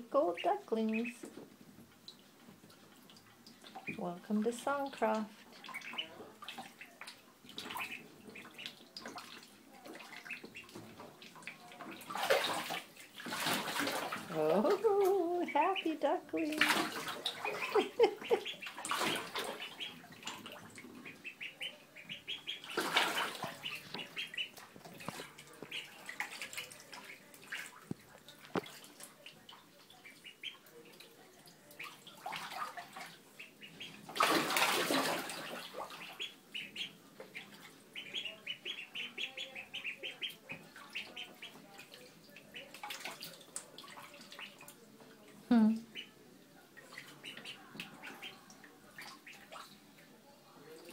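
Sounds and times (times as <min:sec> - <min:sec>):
water splashing: 0:00.0 - 0:46.1, 0:46.7 - 0:50.9
ducklings peeping: 0:00.1 - 0:01.4, 0:03.6 - 0:27.8, 0:28.6 - 0:31.1, 0:31.7 - 0:43.3, 0:43.9 - 0:44.8, 0:45.8 - 0:46.2, 0:46.9 - 0:48.4, 0:49.0 - 0:49.8.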